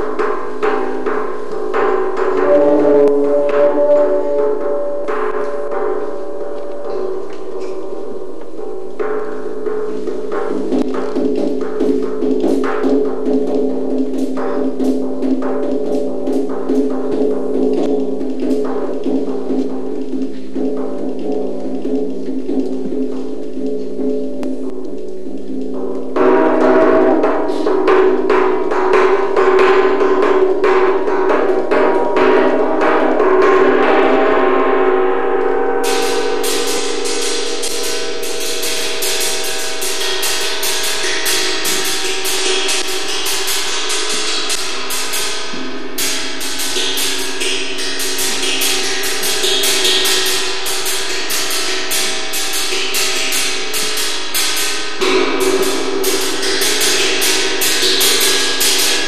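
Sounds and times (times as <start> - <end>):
percussion music: 0.0 - 59.0.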